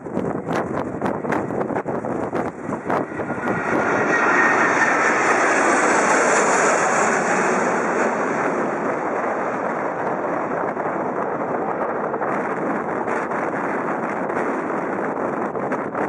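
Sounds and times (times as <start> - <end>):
jet engine roar: 0.0 - 16.0
jet engine whine: 0.0 - 16.0
wind buffeting microphone: 0.0 - 16.0.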